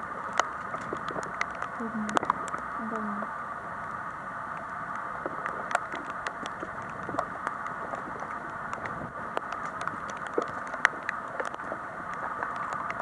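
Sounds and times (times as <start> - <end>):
rain pattering on rubble: 0.0 - 13.0
steady hiss: 0.0 - 13.0.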